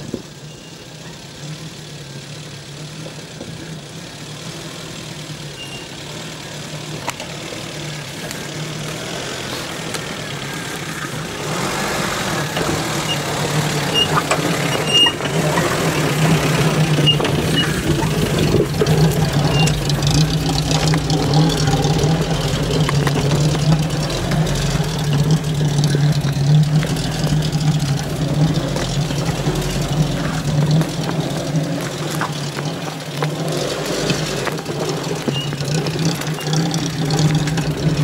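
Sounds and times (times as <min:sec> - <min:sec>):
engine running at low revs: 0:00.0 - 0:38.0.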